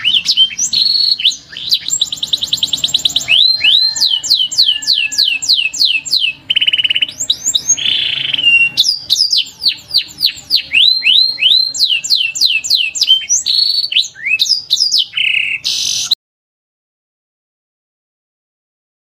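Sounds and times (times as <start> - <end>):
canary singing: 0.0 - 16.2.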